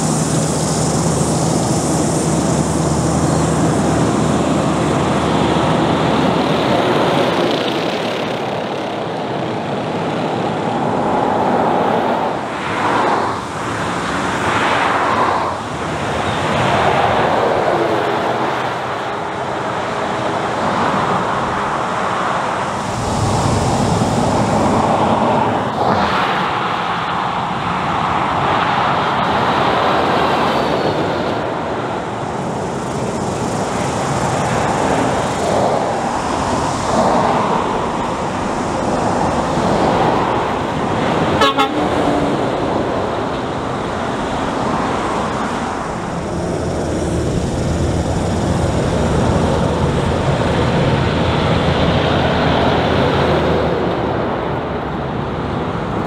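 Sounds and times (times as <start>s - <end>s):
diesel trucks driving past: 0.0s - 56.0s.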